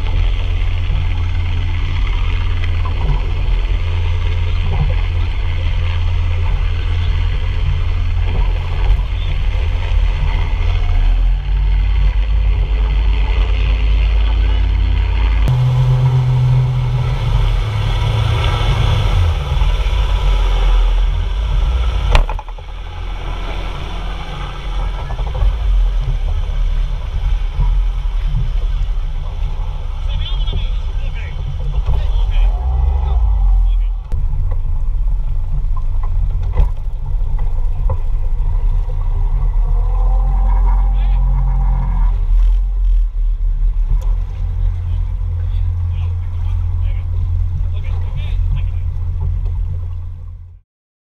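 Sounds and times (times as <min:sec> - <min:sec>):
outboard engine running: 0:00.0 - 0:50.6
wind rumble on microphone: 0:00.0 - 0:50.6.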